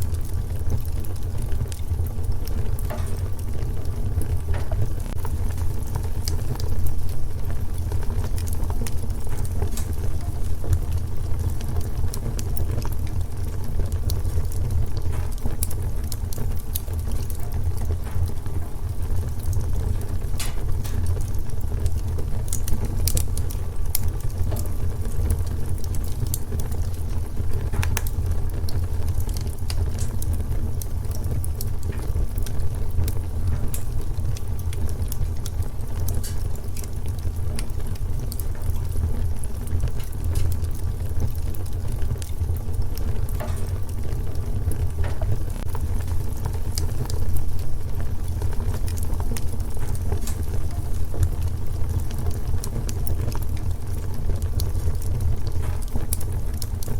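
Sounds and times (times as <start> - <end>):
low rumble of flames: 0.0 - 56.9
small pops from fire: 0.0 - 56.9
wood fire crackling: 0.0 - 56.9.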